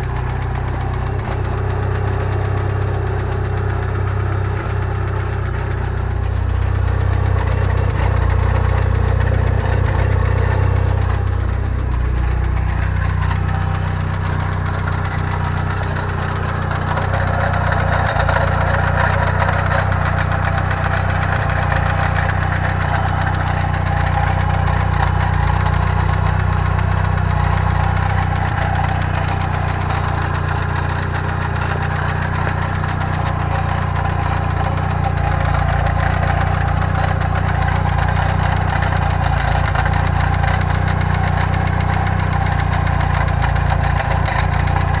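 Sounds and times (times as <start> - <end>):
car engine running with knock: 0.0 - 45.0.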